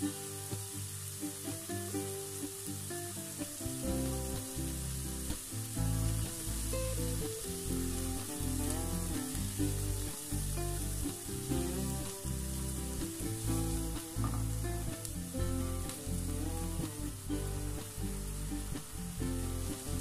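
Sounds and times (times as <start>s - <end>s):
background music: 0.0s - 20.0s
vegetables sizzling in a pan: 0.0s - 20.0s.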